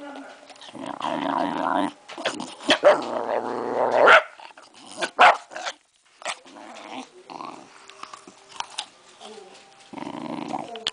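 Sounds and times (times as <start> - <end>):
dog crunching an apple: 0.0 - 10.9.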